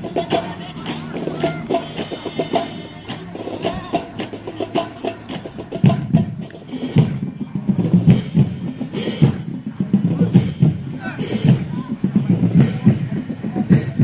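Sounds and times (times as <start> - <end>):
drumline playing cadence: 0.0 - 14.0
low drums: 0.0 - 14.0.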